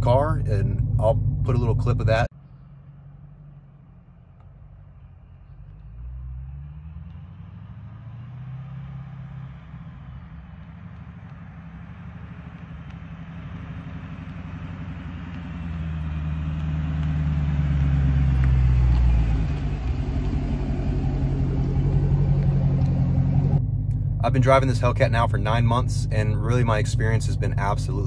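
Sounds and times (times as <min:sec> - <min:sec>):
car engine passing by: 0:02.4 - 0:25.6.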